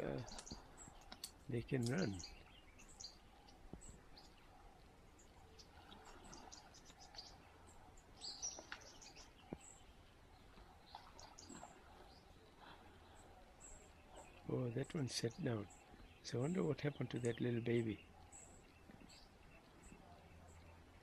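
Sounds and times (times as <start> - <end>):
faint high bird chirps: 0.0 - 21.0.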